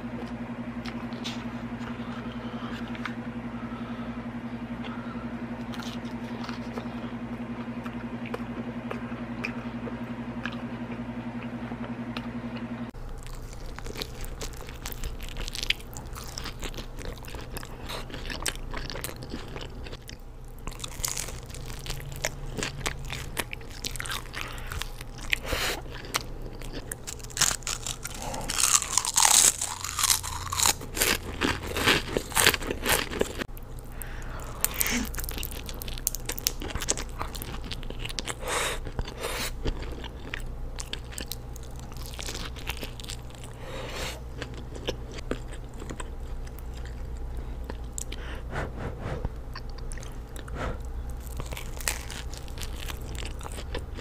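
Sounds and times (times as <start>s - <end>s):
chewing and crunching pizza: 0.0s - 54.0s.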